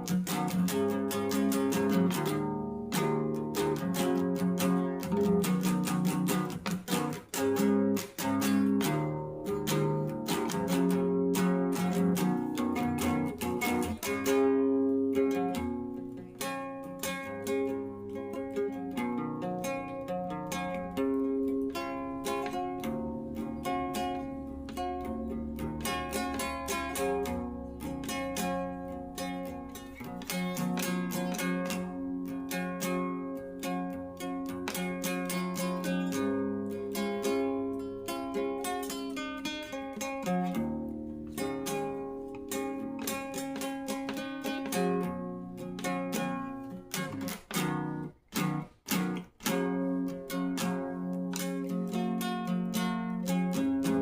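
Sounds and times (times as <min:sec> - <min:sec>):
acoustic guitar playing: 0:00.0 - 0:54.0
plucked string instrument: 0:00.0 - 0:54.0.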